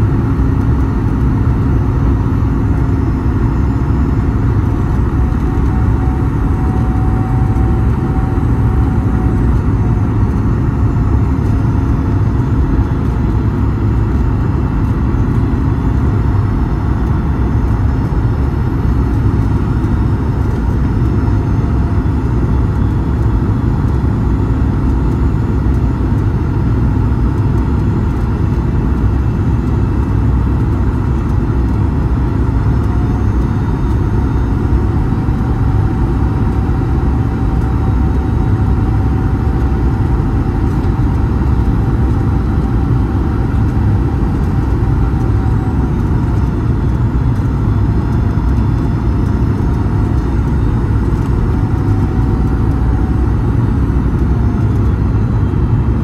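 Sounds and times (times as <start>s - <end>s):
airplane cabin rumble: 0.0s - 56.0s
faint engine whine: 0.0s - 56.0s
turbofan engine noise: 0.0s - 56.0s.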